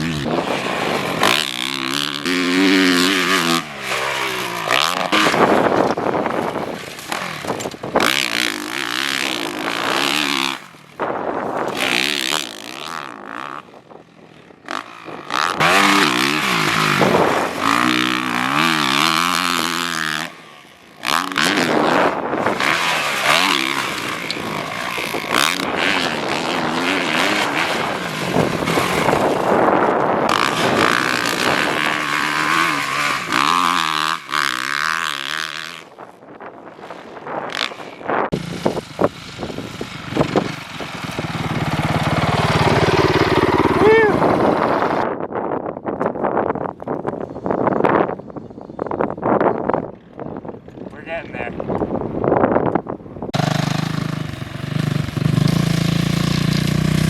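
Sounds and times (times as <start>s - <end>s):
motocross engine revving: 0.0s - 36.0s, 36.9s - 45.1s, 53.4s - 57.0s.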